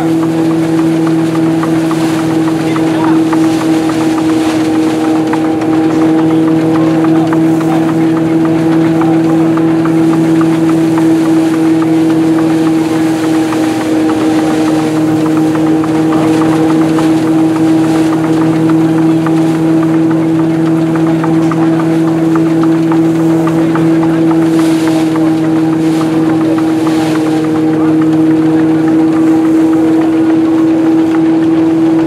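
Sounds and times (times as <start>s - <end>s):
rattling and ticking: 0.0s - 32.0s
threshing machine humming: 0.0s - 32.0s.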